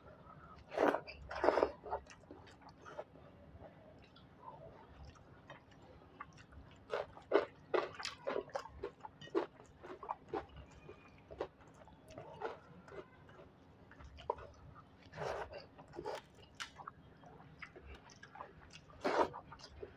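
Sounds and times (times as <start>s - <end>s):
person chewing food: 0.5s - 3.2s, 4.0s - 19.9s.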